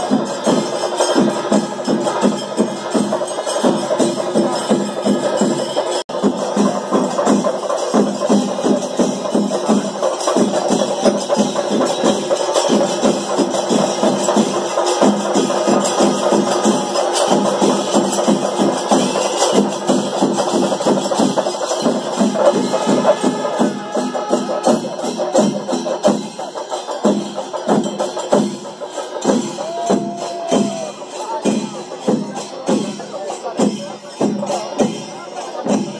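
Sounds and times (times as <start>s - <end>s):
cymbals clashing: 0.0s - 35.9s
drums beaten fast: 0.0s - 35.9s.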